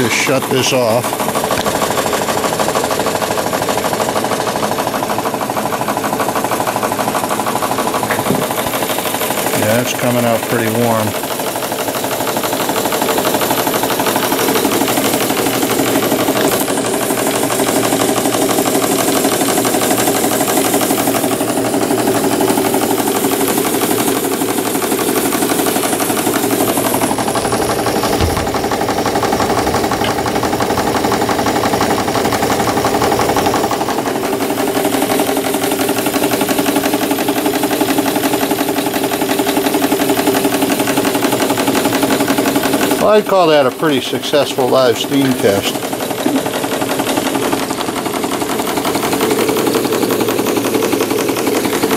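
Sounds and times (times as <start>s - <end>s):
model steam engine chattering: 0.0s - 51.9s.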